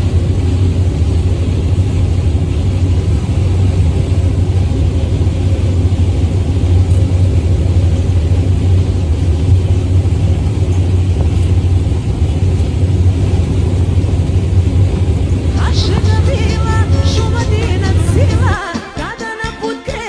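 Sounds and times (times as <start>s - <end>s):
combine harvester rumbling: 0.0s - 19.0s.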